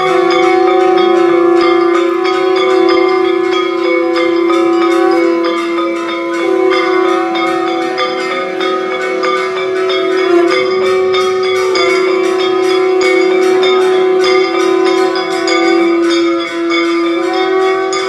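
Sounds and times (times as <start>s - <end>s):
steady held tone: 0.0s - 18.0s
temple bells rung rapidly: 0.0s - 18.0s.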